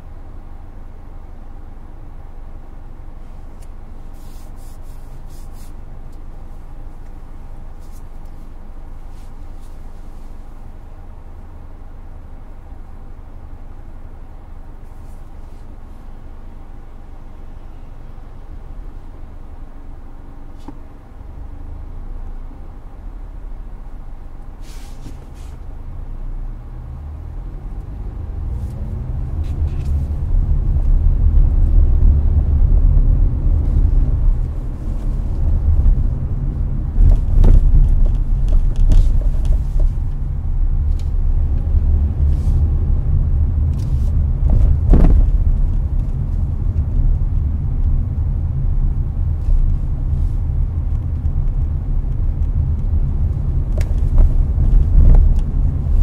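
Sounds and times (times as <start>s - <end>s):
air conditioner fan: 0.0s - 56.0s
car road and engine rumble: 0.0s - 56.0s.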